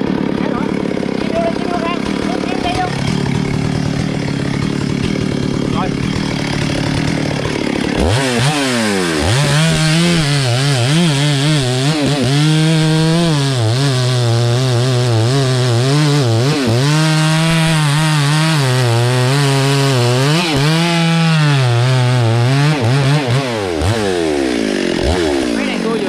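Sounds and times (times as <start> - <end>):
chainsaw cutting log: 0.0 - 26.0.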